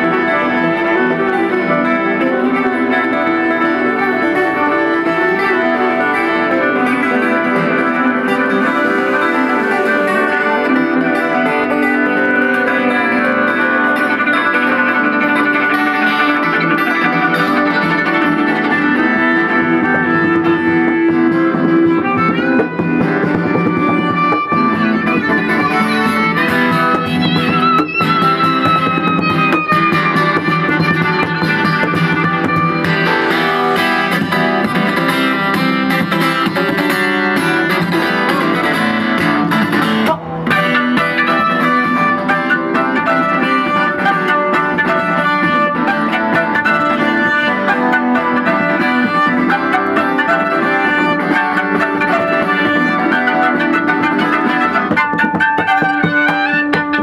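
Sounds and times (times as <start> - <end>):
acoustic guitar strummed fast: 0.0 - 57.0
violin holding high notes: 0.0 - 57.0.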